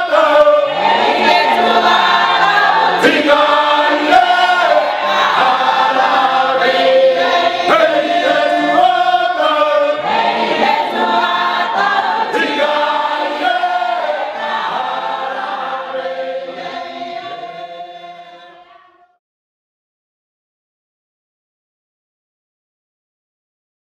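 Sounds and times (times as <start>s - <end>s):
group of people singing: 0.0s - 19.2s.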